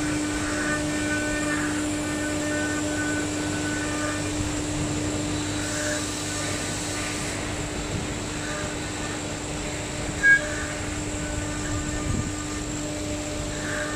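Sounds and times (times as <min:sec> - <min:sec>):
hiss of bit cutting wood: 0:00.0 - 0:13.9
router spindle humming: 0:00.0 - 0:13.9.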